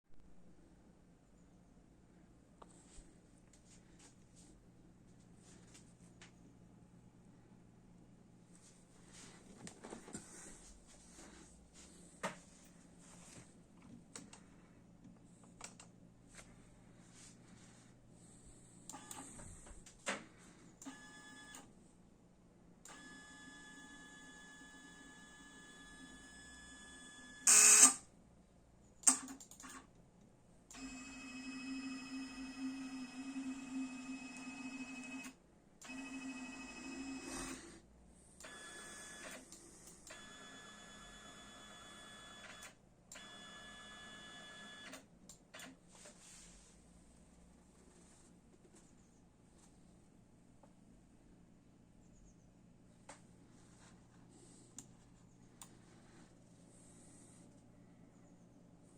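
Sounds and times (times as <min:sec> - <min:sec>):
faint steady hum: 0:00.2 - 0:58.9.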